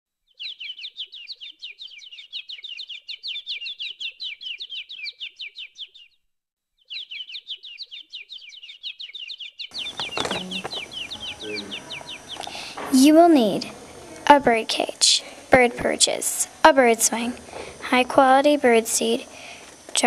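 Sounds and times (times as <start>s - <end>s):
canary singing: 0.3s - 6.2s, 6.8s - 20.0s.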